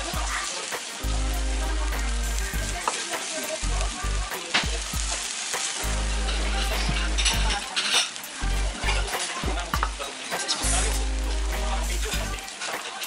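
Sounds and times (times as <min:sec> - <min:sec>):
batter sizzling on griddle: 0:00.0 - 0:13.0.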